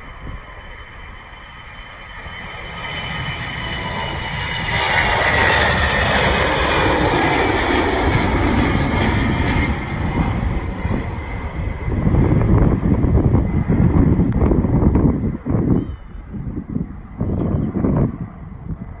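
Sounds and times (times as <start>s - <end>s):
aircraft engines passing: 0.0s - 19.0s.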